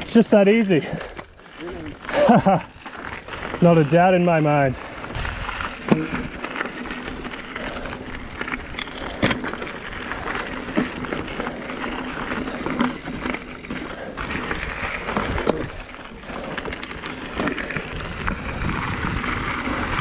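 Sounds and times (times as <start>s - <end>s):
bike rattling over bumps: 0.0s - 20.0s
tyres crunching over gravel: 0.0s - 20.0s.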